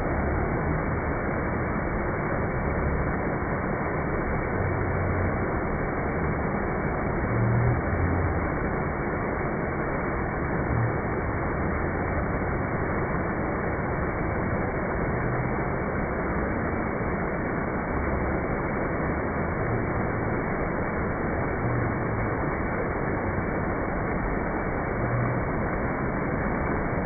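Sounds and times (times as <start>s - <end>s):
water rushing down cascade: 0.0s - 27.0s.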